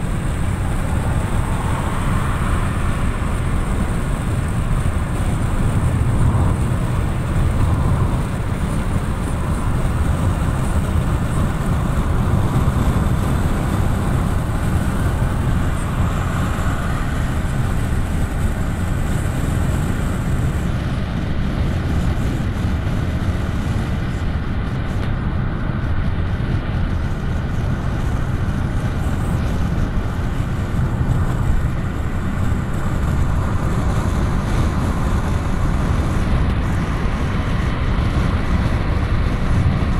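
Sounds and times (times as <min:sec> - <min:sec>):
car road noise at highway speed: 0:00.0 - 0:39.9.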